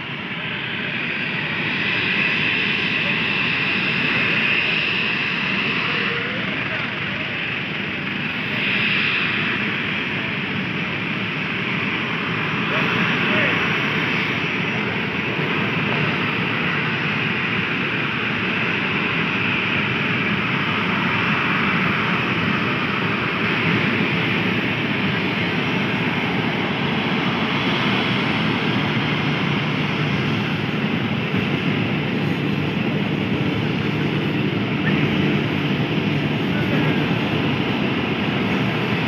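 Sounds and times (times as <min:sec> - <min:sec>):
jet engines running: 0:00.0 - 0:39.0.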